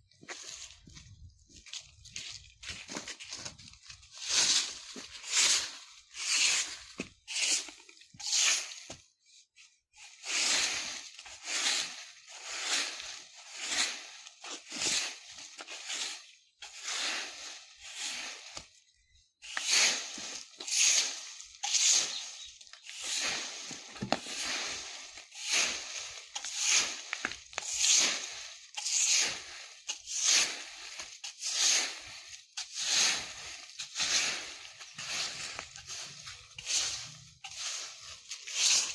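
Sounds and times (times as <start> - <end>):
broom sweeping dry leaves: 0.1 - 38.9.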